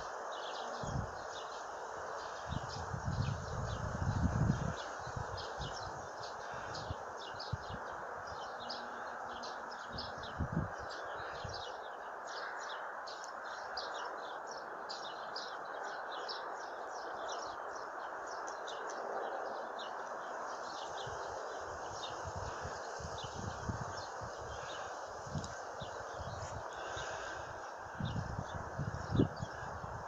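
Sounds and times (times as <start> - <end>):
outdoor background hiss: 0.0 - 30.0
small songbirds chirping: 0.0 - 30.0.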